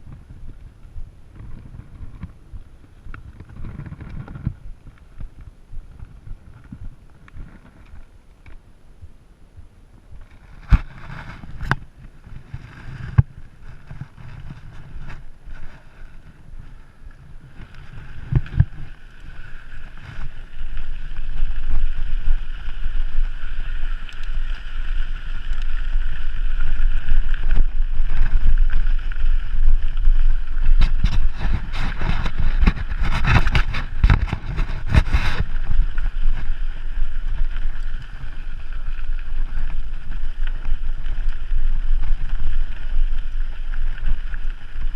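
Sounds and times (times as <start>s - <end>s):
bike knocking and rattling: 0.0s - 8.7s, 10.2s - 44.9s
wind buffeting microphone: 8.9s - 44.9s.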